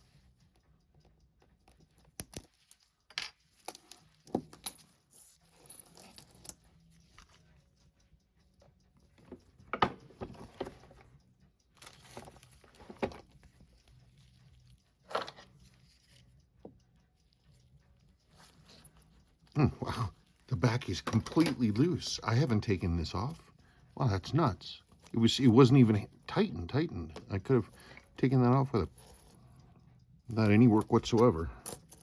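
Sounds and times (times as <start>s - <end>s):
small metal clicks and scrapes: 0.0s - 25.9s, 26.7s - 32.0s.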